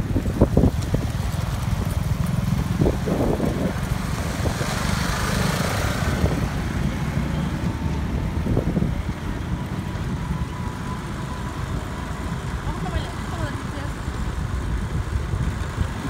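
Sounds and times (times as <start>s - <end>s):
low road noise rumble: 0.0s - 16.0s
vehicle passing close: 0.0s - 16.0s.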